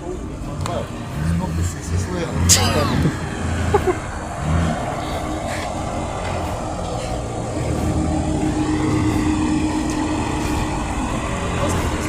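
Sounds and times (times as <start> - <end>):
off-road vehicle engine running: 0.0 - 12.0
steady hum: 0.9 - 12.0.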